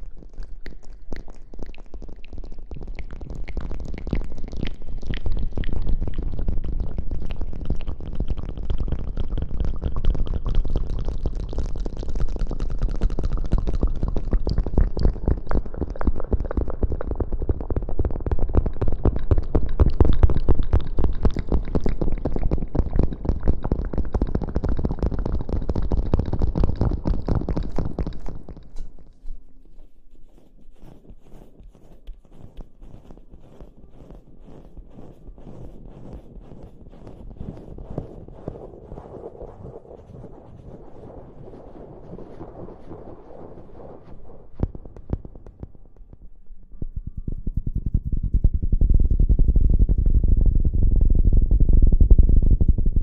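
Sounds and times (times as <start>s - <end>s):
fingers rubbing microphone: 1.3s - 46.1s.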